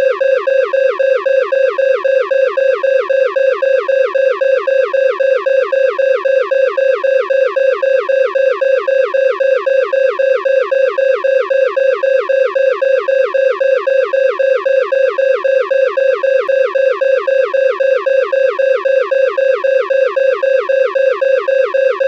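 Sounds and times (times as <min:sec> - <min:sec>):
electronic alarm beeping: 0:00.0 - 0:22.0.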